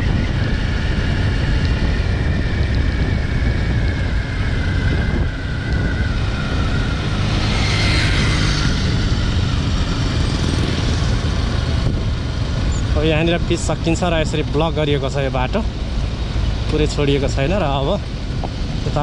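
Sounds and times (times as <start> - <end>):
vehicle and road rumble: 0.0 - 19.0
wind buffeting microphone: 0.0 - 19.0.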